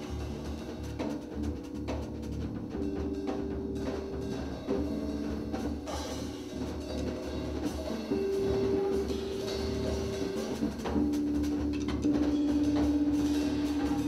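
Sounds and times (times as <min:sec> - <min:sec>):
drum and percussion strikes: 0:00.0 - 0:14.0
held keyboard notes: 0:00.0 - 0:14.0
pulsing bass line: 0:00.0 - 0:14.0.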